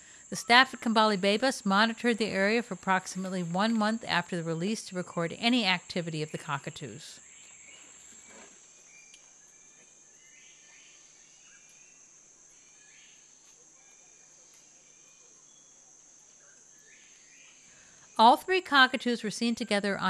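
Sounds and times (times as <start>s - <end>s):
insects droning high: 0.0s - 20.0s.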